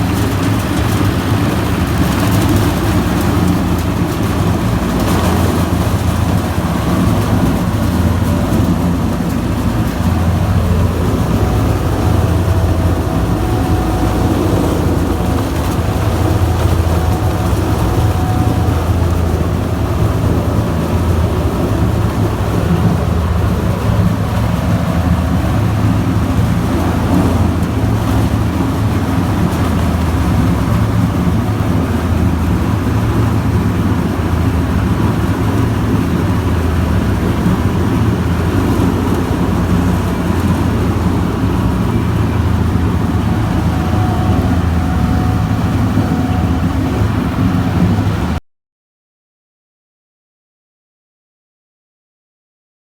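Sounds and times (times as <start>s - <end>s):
diesel engine running: 0.0s - 48.4s.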